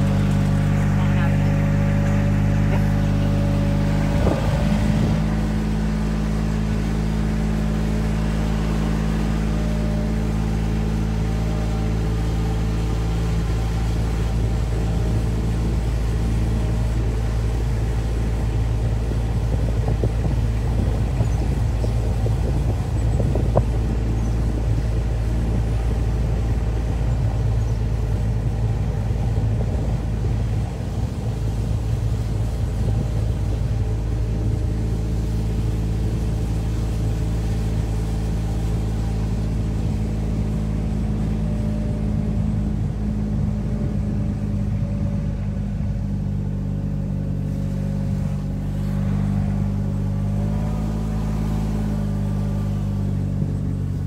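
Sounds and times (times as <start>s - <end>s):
vehicle engine drone: 0.0s - 54.0s.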